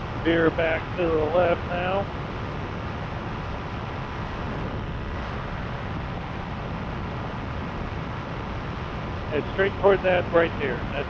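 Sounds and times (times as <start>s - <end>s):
paraglider engine and propeller droning: 0.0s - 11.0s.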